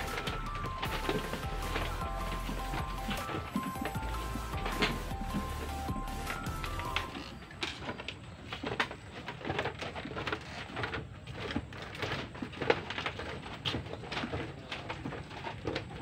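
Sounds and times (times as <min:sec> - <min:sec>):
bamboo creaking and clacking: 0:00.0 - 0:16.0
footsteps on bamboo slats: 0:00.0 - 0:16.0.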